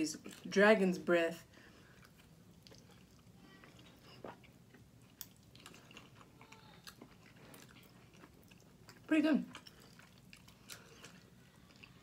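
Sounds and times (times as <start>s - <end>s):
chewing chicken wings: 1.9s - 12.0s.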